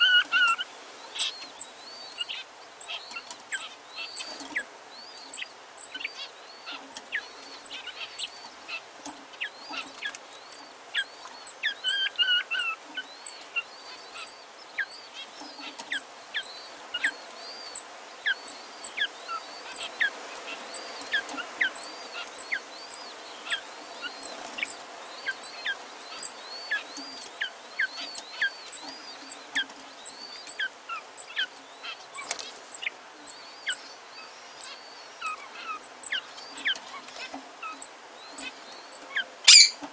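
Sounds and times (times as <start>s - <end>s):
chicks peeping: 0.0s - 39.9s
steady background noise: 0.0s - 39.9s.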